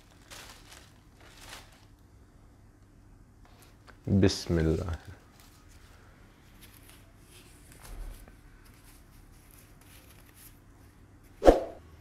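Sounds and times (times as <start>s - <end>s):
rustling of paper and foam nets: 0.0s - 2.3s, 3.4s - 11.4s.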